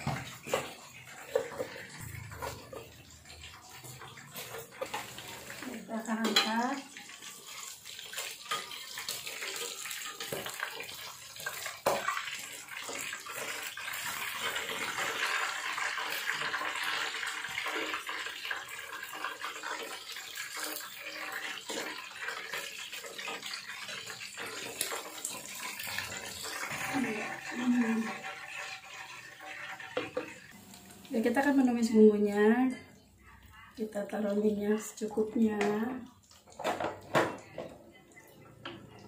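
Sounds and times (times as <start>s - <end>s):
oil sizzling in a wok: 0.0s - 32.8s.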